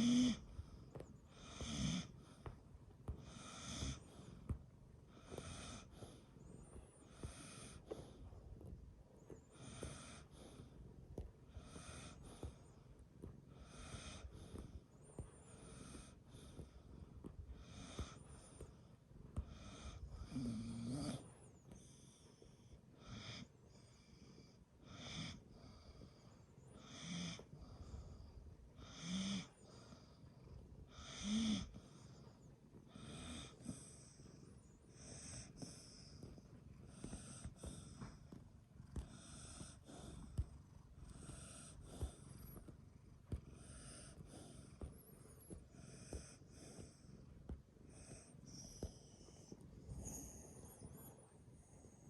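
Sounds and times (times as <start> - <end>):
dog snoring: 0.0 - 52.0.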